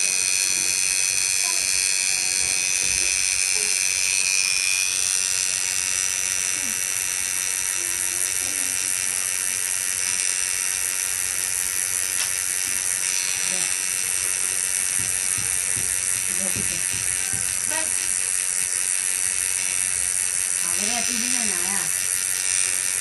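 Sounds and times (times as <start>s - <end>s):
tattoo machine buzzing: 0.0s - 23.0s.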